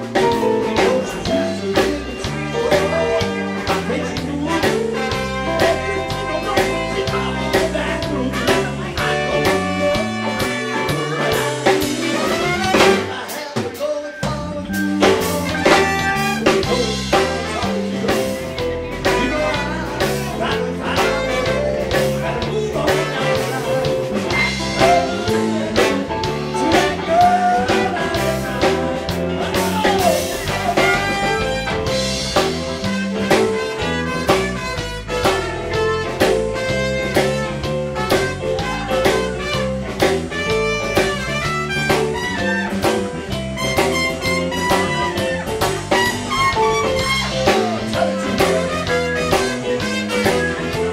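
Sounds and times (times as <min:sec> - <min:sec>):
blues band playing: 0:00.0 - 0:50.9
steady drum beat: 0:00.0 - 0:50.9.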